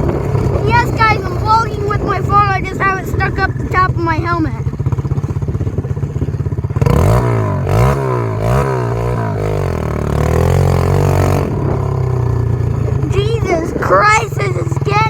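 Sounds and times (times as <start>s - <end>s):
motorbike engine idling and revving: 0.0s - 15.0s.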